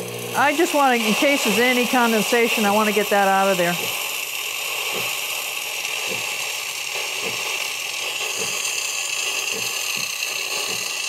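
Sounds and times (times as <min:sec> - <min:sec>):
steam hissing: 0:00.4 - 0:11.0.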